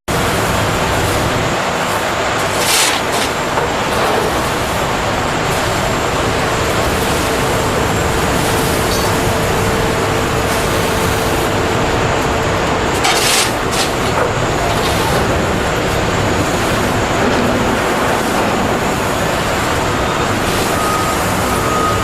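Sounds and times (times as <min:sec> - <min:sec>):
industrial machinery din: 0:00.1 - 0:22.0.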